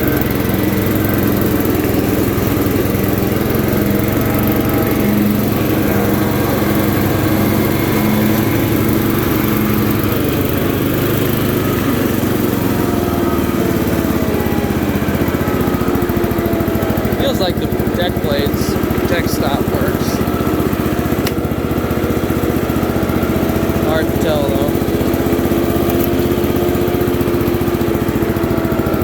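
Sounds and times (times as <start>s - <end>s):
riding lawn mower engine running: 0.0s - 29.0s.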